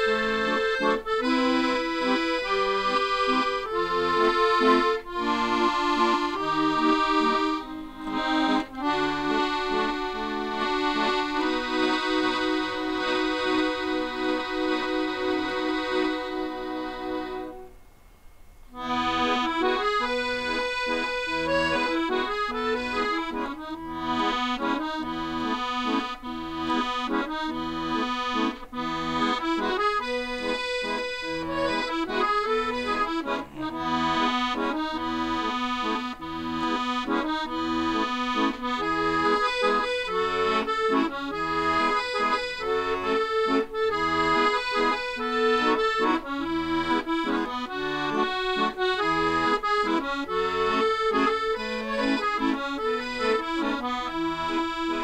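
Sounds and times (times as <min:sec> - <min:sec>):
button accordion playing a tune: 0:00.0 - 0:17.8, 0:18.7 - 0:55.0.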